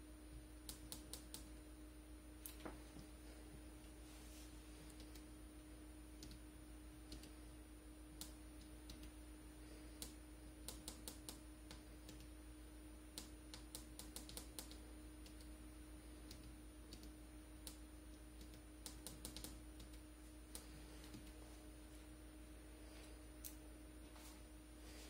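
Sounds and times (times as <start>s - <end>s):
faint hum and high whine: 0.0s - 25.0s.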